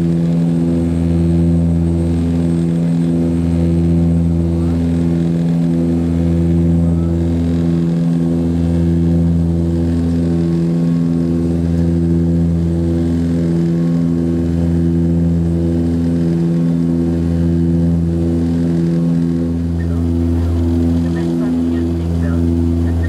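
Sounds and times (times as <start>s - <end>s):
turboprop cabin drone: 0.0s - 23.0s.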